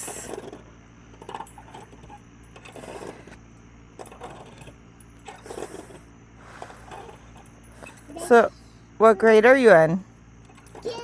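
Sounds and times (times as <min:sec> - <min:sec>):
swing chains clinking and creaking: 0:00.0 - 0:11.0.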